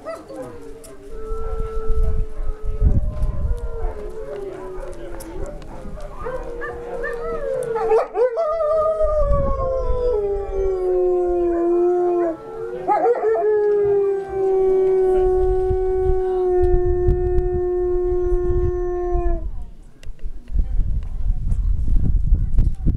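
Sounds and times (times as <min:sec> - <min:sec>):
wolf howling: 0:00.1 - 0:19.5.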